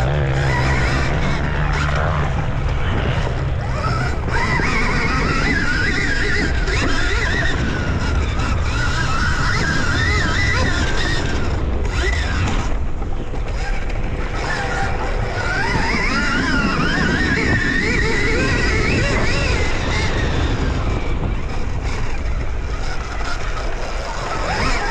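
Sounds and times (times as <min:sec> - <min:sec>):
dirt bike motor revving: 0:00.0 - 0:24.9
wind rumble on microphone: 0:00.0 - 0:24.9.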